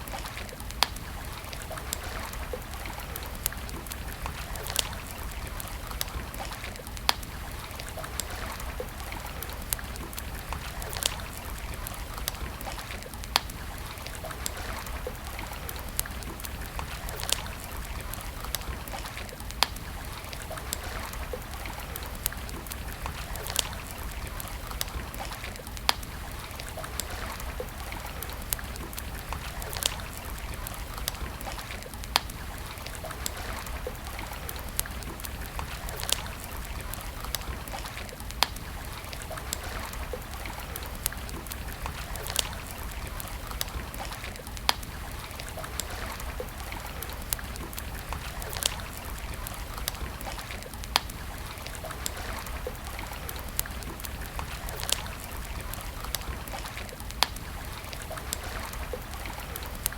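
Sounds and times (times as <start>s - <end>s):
wood campfire crackling: 0.0s - 59.9s.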